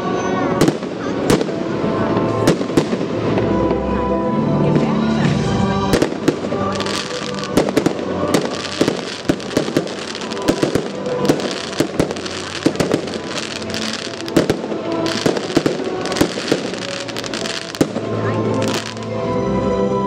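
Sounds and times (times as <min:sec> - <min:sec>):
fireworks crackling: 0:00.0 - 0:19.4
fireworks bangs: 0:00.6 - 0:04.0, 0:04.7 - 0:19.2.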